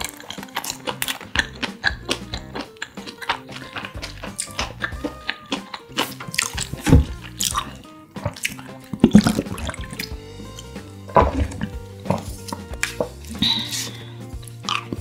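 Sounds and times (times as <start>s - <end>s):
background music: 0.0s - 15.0s
person drinking and swallowing: 0.0s - 15.0s.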